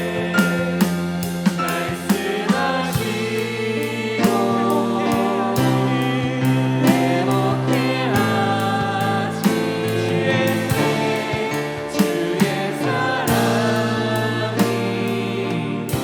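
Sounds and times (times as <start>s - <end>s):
group singing: 0.0s - 16.0s
worship band playing: 0.0s - 16.0s.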